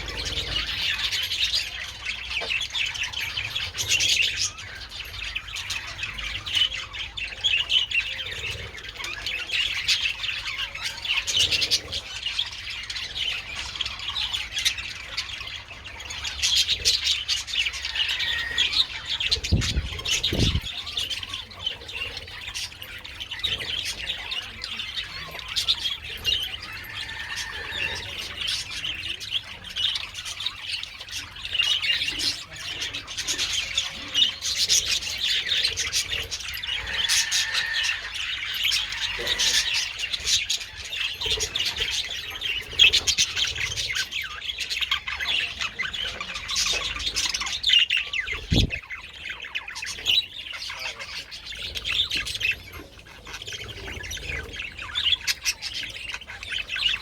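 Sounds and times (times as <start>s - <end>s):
budgerigars chattering and squawking: 0.0s - 57.0s.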